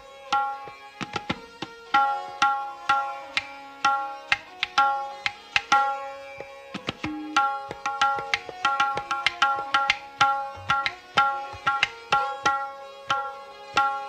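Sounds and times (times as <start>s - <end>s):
tabla right-hand drum strokes: 0.3s - 14.0s.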